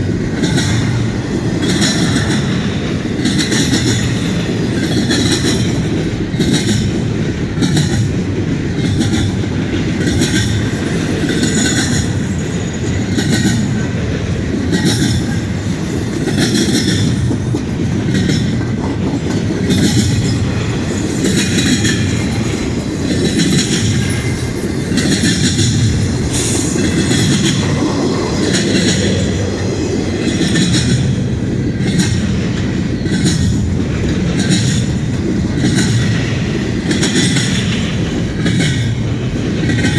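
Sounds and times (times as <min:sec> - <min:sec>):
train wheels rumbling on rail: 0:00.0 - 0:39.9
wheels clacking over rail joints: 0:00.0 - 0:39.9.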